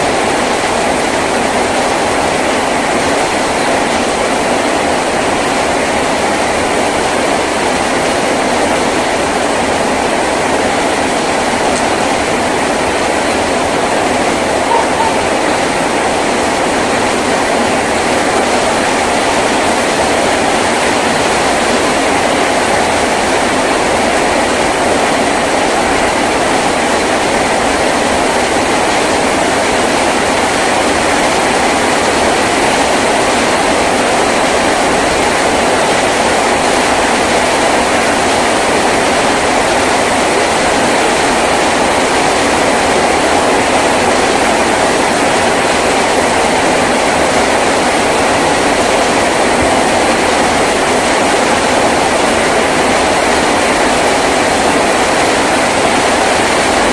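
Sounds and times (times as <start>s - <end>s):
heavy rain on a tin roof: 0.0s - 56.9s.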